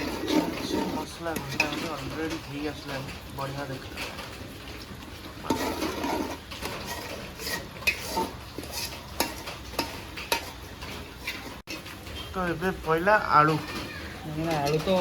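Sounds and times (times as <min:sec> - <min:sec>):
spatula scraping frying food: 0:00.0 - 0:15.0.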